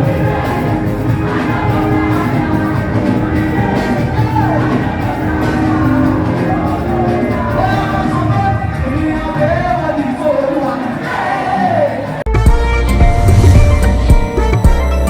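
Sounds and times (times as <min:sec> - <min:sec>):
loud music with singing: 0:00.0 - 0:15.0.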